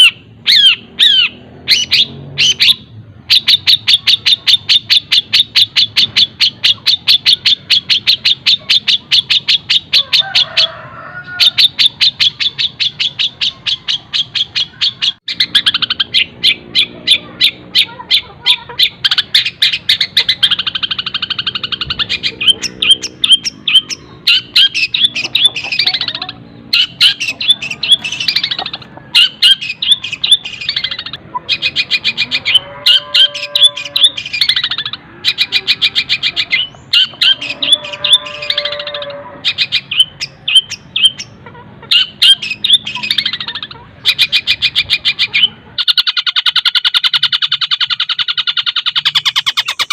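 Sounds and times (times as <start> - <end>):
shrike singing sharp chips: 0.0 - 10.7, 11.4 - 49.9.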